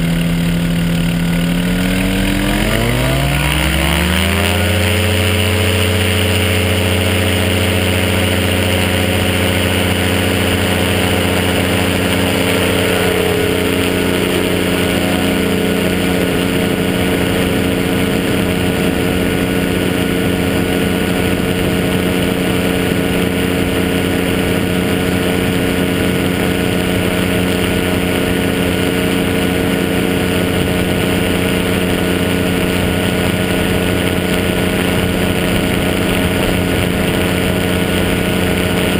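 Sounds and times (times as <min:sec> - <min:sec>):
two-stroke aircraft engine running: 0:00.0 - 0:38.9.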